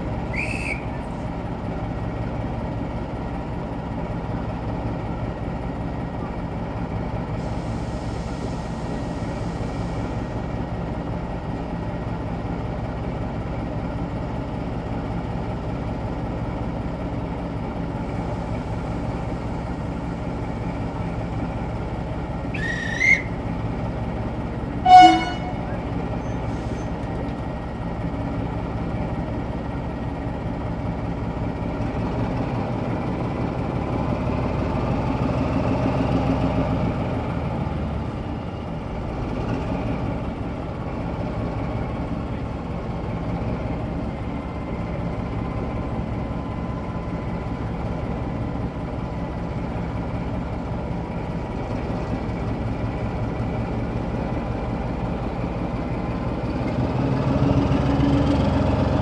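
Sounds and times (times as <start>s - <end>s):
train running: 0.0s - 59.0s.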